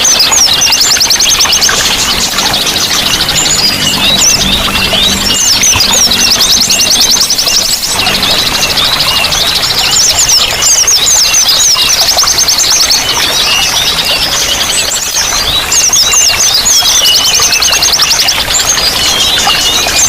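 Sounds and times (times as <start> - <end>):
running water: 0.0 - 20.0
songbirds chirping and trilling: 0.0 - 20.0.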